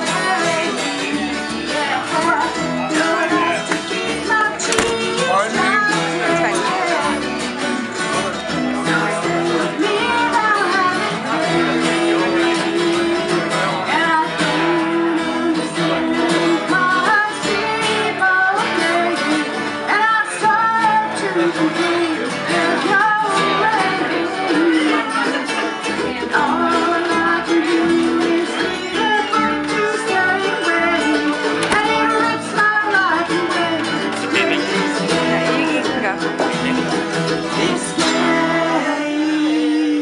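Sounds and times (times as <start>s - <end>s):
guitar playing: 0.0s - 40.0s
person singing: 0.0s - 40.0s.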